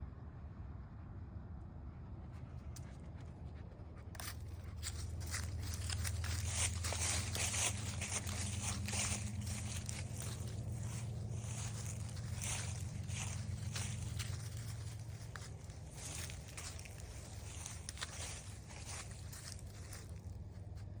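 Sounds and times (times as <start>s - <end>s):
steady low hum: 0.0s - 21.0s
footsteps crunching on dry ground: 4.2s - 21.0s.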